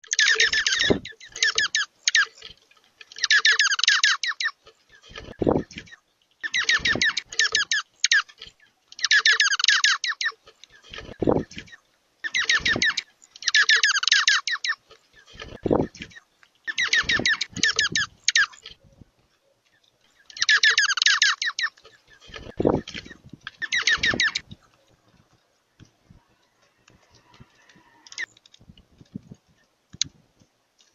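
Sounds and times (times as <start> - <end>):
birds chattering chirps: 0.0 - 2.5, 3.1 - 28.4.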